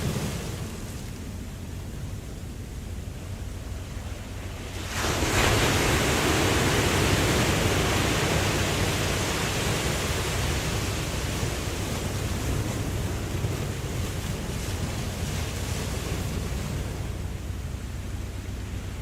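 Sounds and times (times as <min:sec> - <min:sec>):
low steady rumble: 0:00.0 - 0:19.0
ocean wave breaking: 0:00.0 - 0:19.0.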